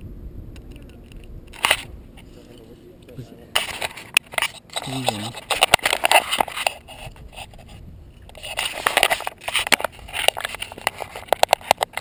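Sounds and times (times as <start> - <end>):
handling scrapes and rubs: 1.6 - 12.0.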